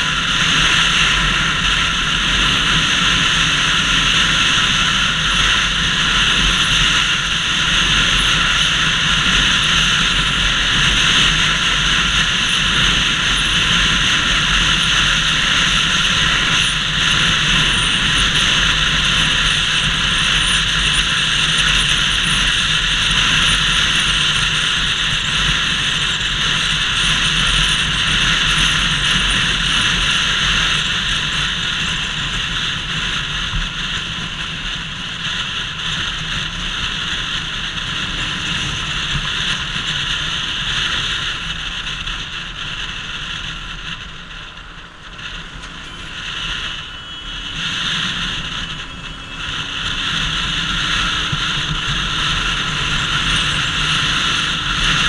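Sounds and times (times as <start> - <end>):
motorcycle engine running: 0.0 - 55.0
wind roaring over camera: 0.0 - 55.0.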